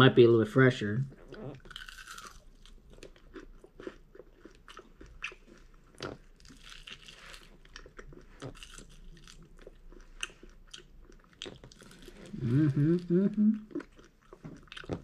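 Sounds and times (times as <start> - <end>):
person chewing crunchy food: 1.1 - 15.0.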